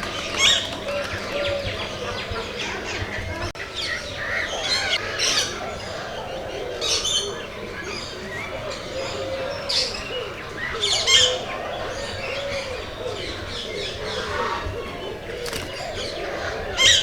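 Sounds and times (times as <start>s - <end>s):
many birds chirping and squawking: 0.0s - 17.0s.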